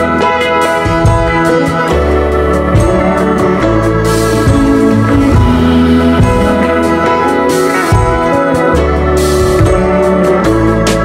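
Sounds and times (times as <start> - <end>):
pop music with keyboard chords: 0.0 - 11.0.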